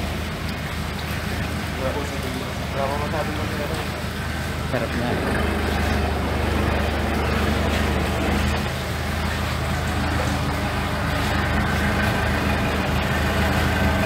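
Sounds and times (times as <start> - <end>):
boat engine low drone: 0.0 - 14.0.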